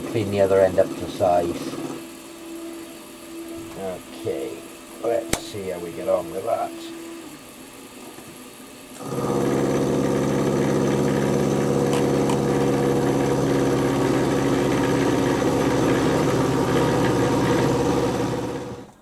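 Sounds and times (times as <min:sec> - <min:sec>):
milling machine drone: 0:00.0 - 0:19.0.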